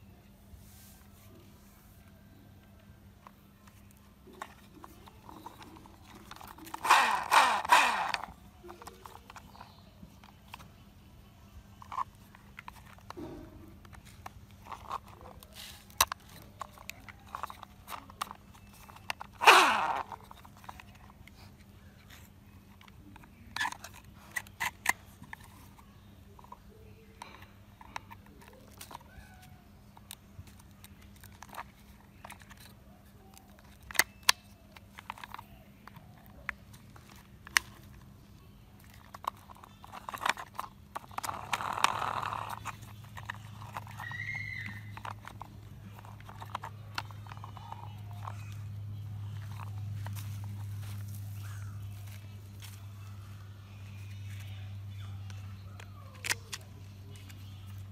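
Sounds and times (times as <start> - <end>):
plastic toy parts clicking: 3.2 - 51.2, 55.2 - 57.9.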